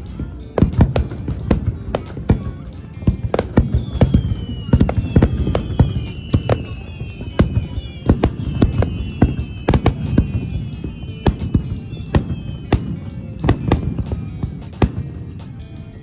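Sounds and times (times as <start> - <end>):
firework bangs and crackles: 0.0 - 16.0
firework whistles sliding down: 0.0 - 16.0.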